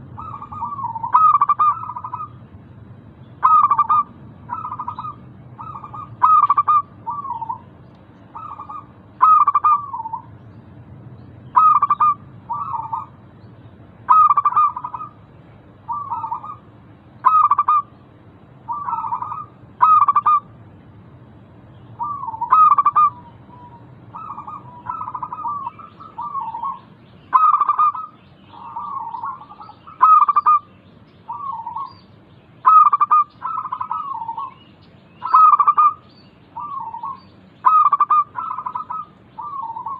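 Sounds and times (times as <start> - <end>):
doves cooing: 0.0 - 2.5, 3.4 - 10.4, 11.5 - 13.2, 14.1 - 18.0, 18.7 - 20.5, 22.0 - 30.7, 31.3 - 32.0, 32.6 - 39.9.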